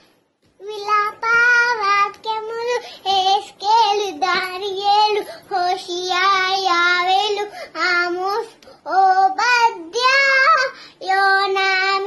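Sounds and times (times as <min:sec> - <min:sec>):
girl singing: 0:00.6 - 0:12.0.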